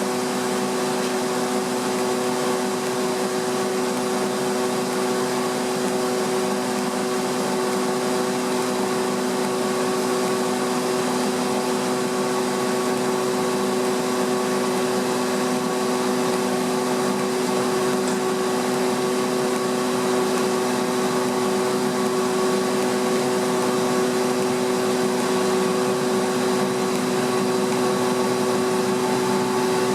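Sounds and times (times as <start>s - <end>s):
air compressor running: 0.0s - 29.9s.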